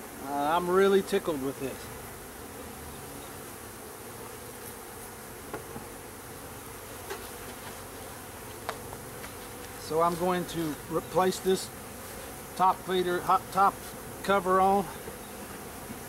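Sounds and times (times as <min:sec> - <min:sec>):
bees buzzing in hive: 0:00.0 - 0:16.0.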